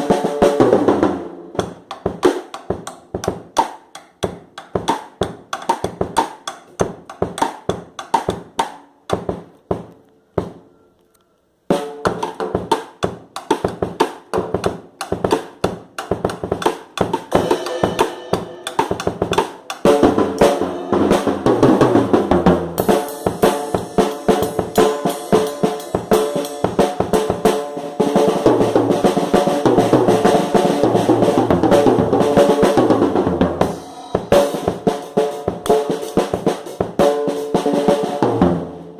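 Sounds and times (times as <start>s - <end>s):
acoustic drum kit playing: 0.0s - 10.6s, 11.7s - 38.9s.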